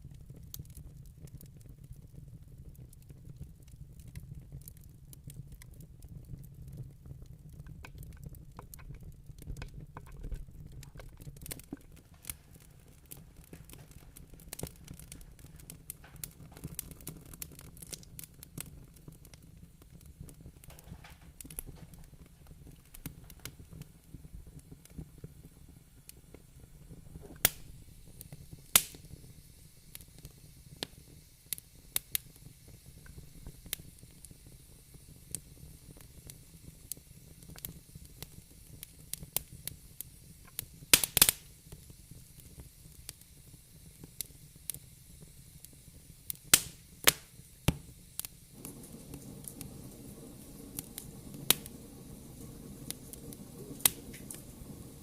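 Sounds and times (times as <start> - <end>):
faint hiss: 0.0 - 55.0
fireplace fire crackling: 0.0 - 55.0.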